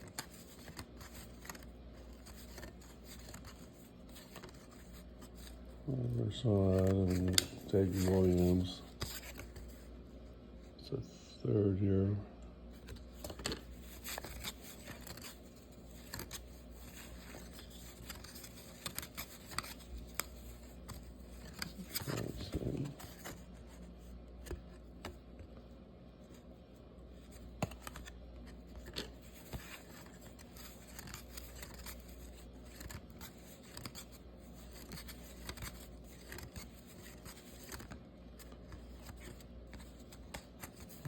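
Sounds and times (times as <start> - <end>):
trading cards clicking and rustling: 0.0 - 9.9, 12.8 - 23.6, 27.2 - 41.0.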